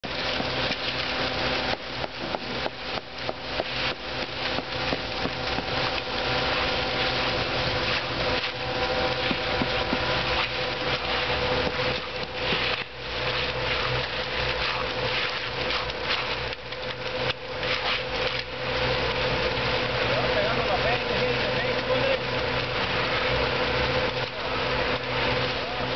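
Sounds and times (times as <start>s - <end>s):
machine engine running: 0.0s - 25.9s.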